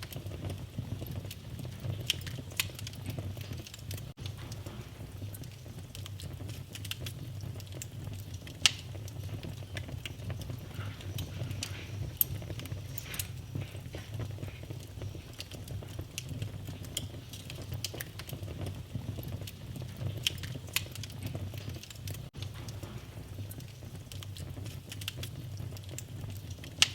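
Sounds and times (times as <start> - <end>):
fire crackling and popping: 0.0 - 26.9
low rumble of flames: 0.0 - 26.9.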